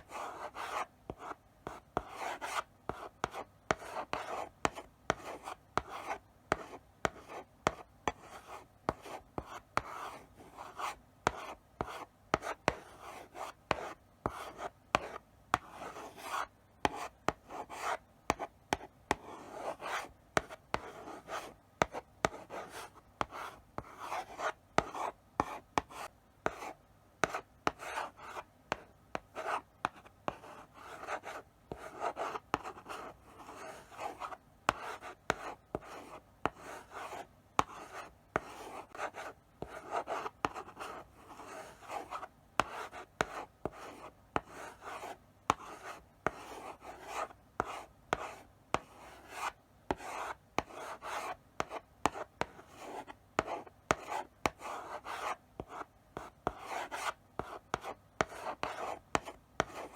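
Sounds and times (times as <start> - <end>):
chalk scratching on blackboard: 0.0 - 59.9
chalk tapping on board: 0.3 - 10.0, 13.4 - 59.9.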